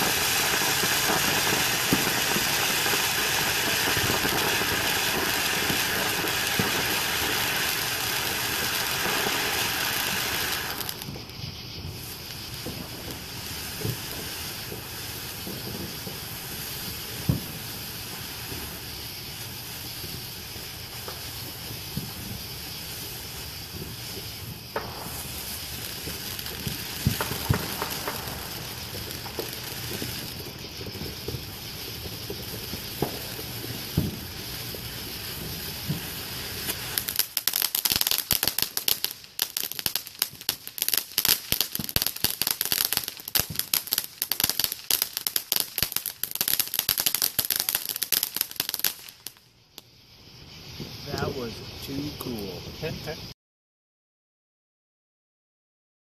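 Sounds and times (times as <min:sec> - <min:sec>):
firework pops: 0:00.0 - 0:53.3
firework fountain hissing: 0:00.0 - 0:53.4
firework rapid crackling: 0:00.0 - 0:53.4.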